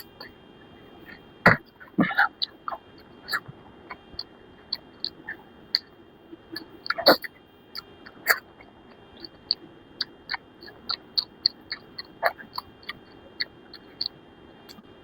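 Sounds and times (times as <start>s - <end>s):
faint high whine: 0.0s - 15.0s
wet chewing: 1.5s - 14.9s.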